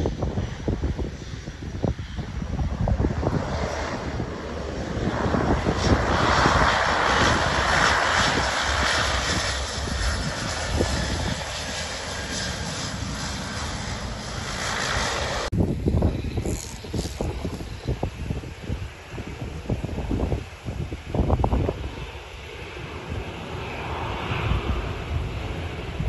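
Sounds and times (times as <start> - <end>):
turboprop engines running: 0.0 - 26.0.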